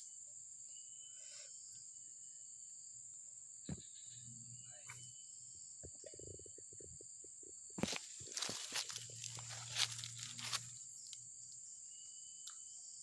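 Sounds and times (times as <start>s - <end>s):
high-pitched insect chirring: 0.0s - 13.0s.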